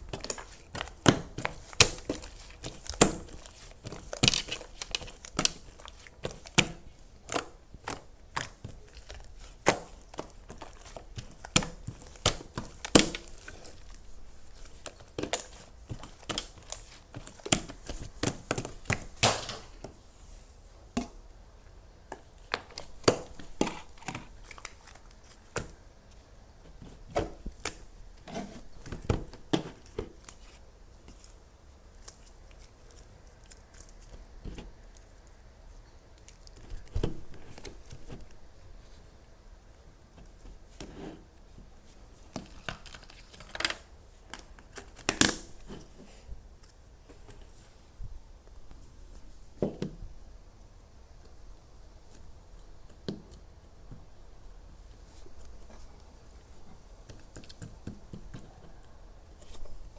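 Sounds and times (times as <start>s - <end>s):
crinkling and crackling by hand: 0.0s - 59.9s.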